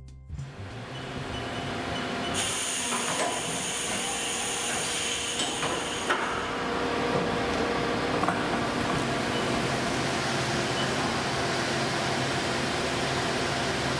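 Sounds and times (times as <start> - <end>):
machining center hiss and hum: 0.4 - 13.9.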